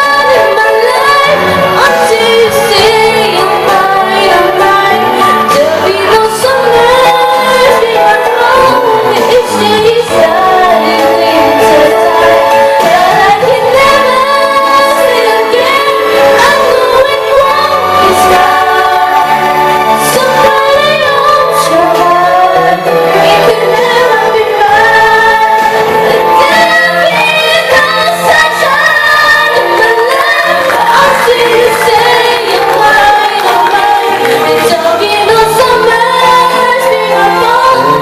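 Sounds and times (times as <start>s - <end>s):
music accompaniment: 0.0s - 38.0s
woman singing: 0.0s - 38.0s.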